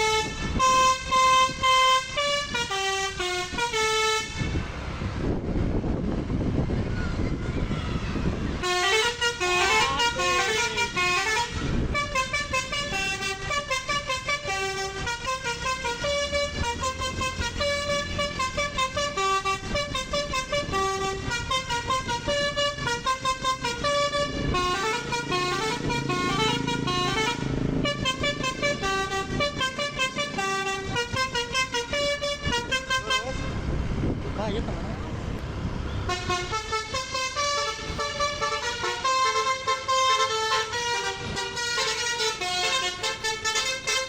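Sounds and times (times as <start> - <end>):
musical bus horn melody: 0.0 - 4.7, 7.8 - 33.7, 36.0 - 44.0.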